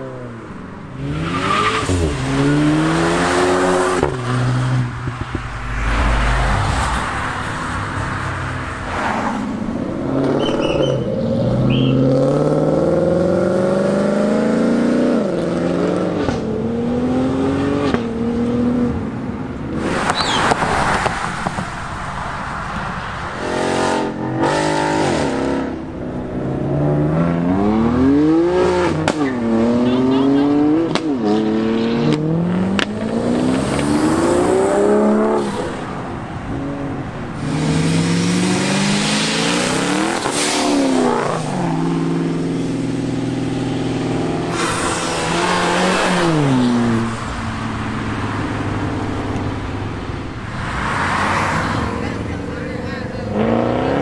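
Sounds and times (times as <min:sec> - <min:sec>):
cars accelerating hard past: 0:00.0 - 0:54.0.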